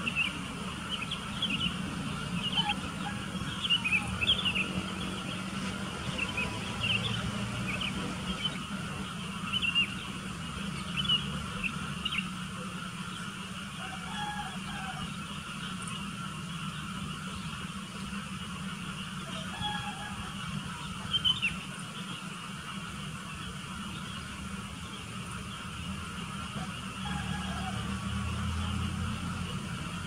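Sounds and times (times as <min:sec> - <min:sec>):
bulbuls chirping: 0:00.0 - 0:30.0
steady low hum: 0:00.0 - 0:30.0.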